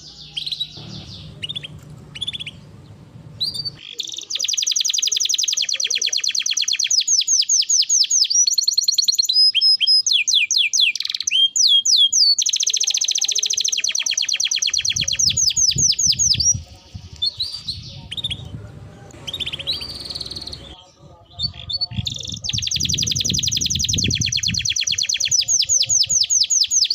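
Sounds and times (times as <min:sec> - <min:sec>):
canary singing: 0:00.0 - 0:26.9.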